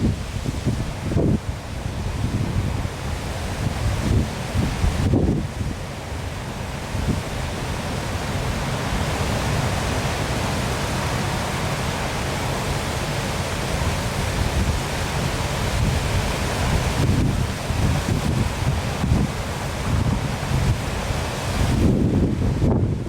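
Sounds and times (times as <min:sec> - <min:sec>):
wind rumble on microphone: 0:00.0 - 0:06.0, 0:06.6 - 0:10.2, 0:13.7 - 0:23.0
waterfall rushing: 0:00.0 - 0:23.0.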